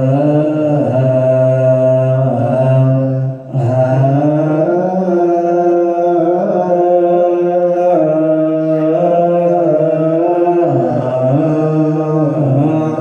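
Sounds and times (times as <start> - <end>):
person chanting long held notes: 0.0 - 13.0.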